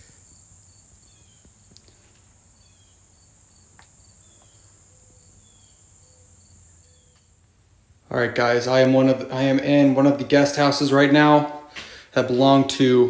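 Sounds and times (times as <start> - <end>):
insects droning: 0.0 - 12.1.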